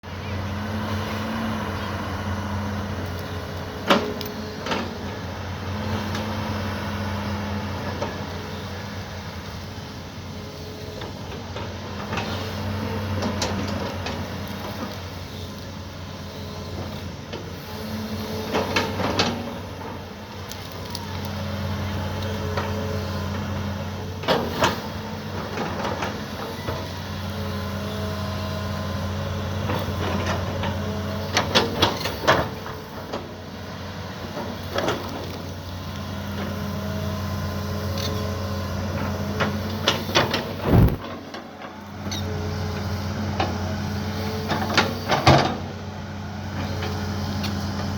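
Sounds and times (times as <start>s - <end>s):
excavator engine hum: 0.0s - 47.9s.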